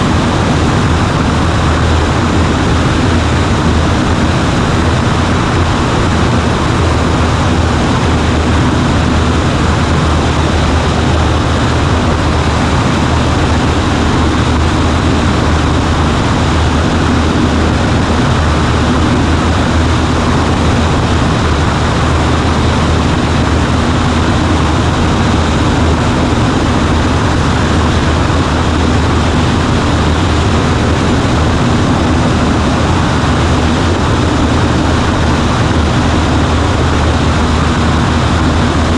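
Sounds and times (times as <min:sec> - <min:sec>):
aircraft engine and propeller droning: 0:00.0 - 0:38.9
wind and airframe noise: 0:00.0 - 0:38.9.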